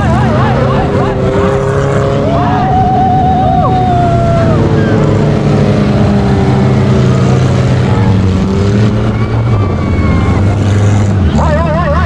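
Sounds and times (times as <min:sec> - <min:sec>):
off-road vehicle engines running: 0:00.0 - 0:12.0.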